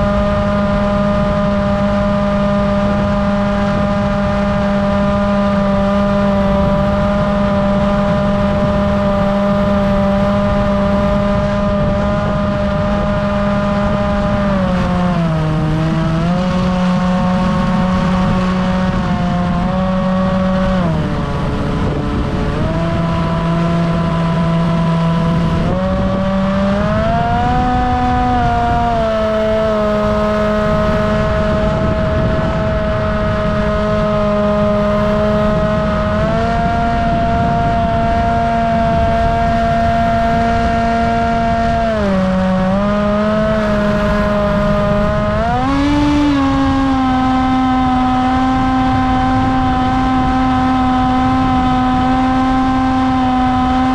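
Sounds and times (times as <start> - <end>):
electric motor and propeller whining: 0.0 - 53.9
wind noise: 0.0 - 53.9.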